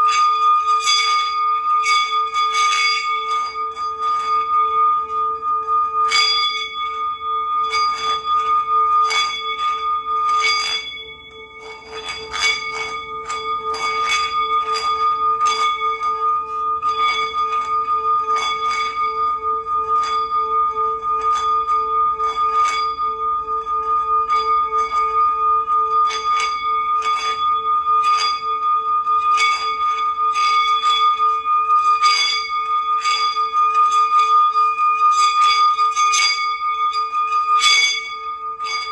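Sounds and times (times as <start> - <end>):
bells ringing: 0.0 - 38.9.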